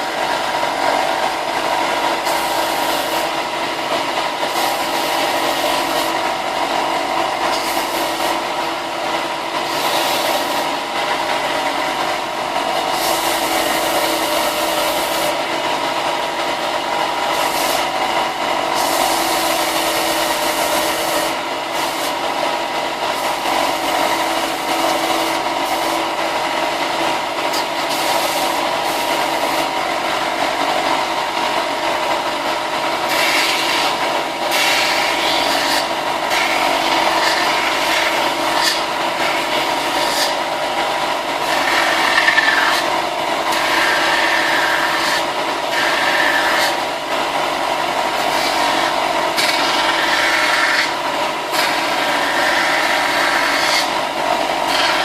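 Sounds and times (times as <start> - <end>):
electric sander grinding plastic: 0.0 - 55.0.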